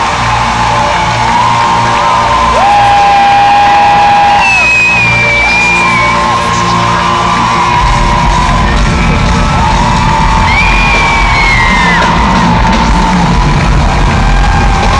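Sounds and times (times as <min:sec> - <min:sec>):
deep bass: 0:00.0 - 0:14.9
fans screaming and whooping: 0:00.0 - 0:14.9
live pop concert music: 0:00.0 - 0:14.9.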